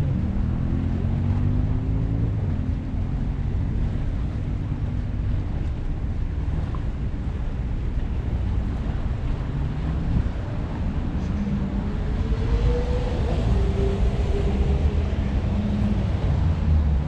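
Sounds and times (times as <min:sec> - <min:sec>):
traffic drone: 0:00.0 - 0:17.0
vehicle engine hum: 0:00.0 - 0:17.0
wind rumbling on microphone: 0:00.0 - 0:17.0.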